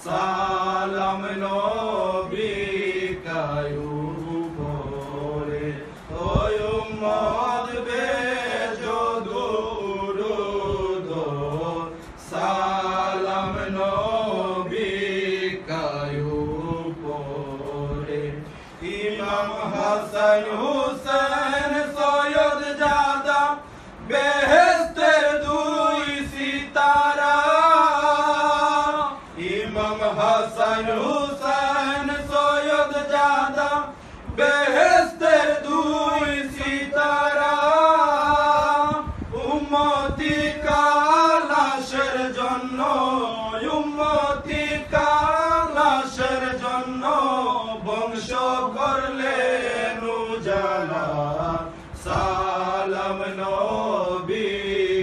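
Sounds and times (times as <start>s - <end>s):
men chanting: 0.0s - 55.0s.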